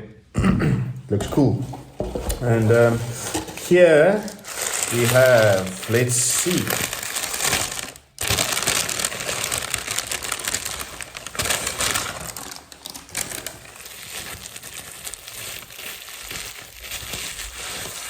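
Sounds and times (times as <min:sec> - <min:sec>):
packaging crinkling: 0:01.2 - 0:18.0.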